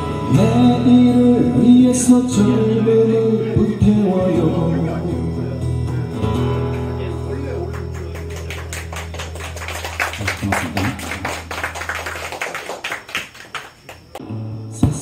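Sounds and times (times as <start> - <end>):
acoustic guitars strumming: 0.0 - 12.2.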